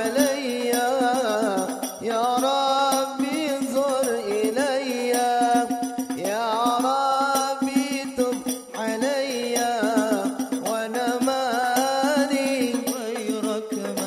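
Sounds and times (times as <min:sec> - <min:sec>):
frame drums beating: 0:00.0 - 0:14.0
man singing into a microphone: 0:00.0 - 0:14.0.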